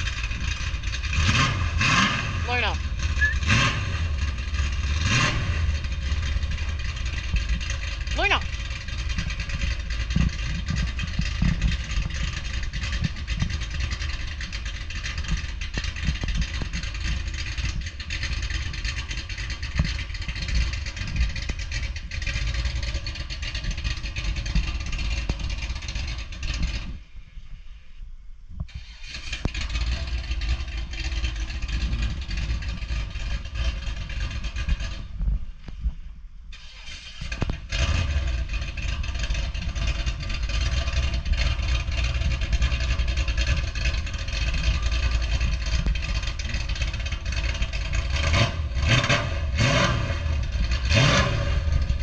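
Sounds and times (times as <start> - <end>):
car engine low rumble: 0.0 - 52.0
road and wind noise: 0.0 - 52.0.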